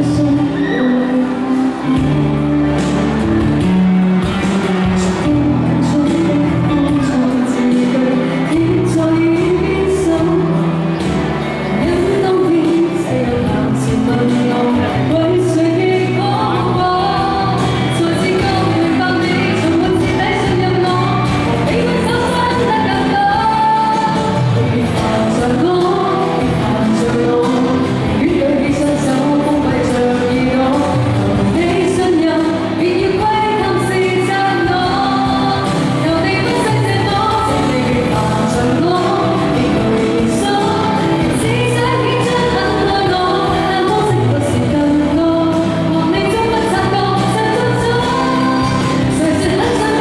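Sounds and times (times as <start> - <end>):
woman singing into a microphone: 0.0 - 50.0.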